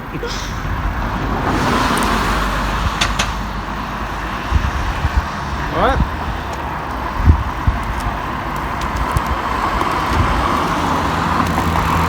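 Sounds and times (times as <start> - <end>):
motor vehicle passing: 0.0 - 12.0.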